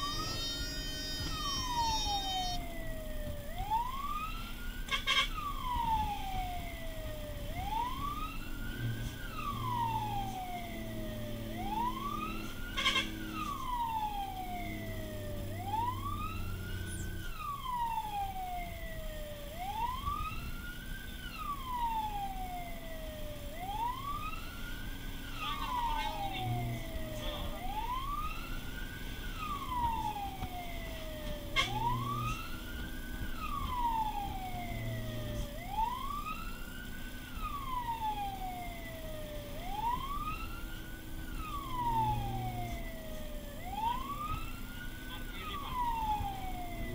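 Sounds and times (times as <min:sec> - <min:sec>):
fire truck siren wailing: 0:00.0 - 0:46.9.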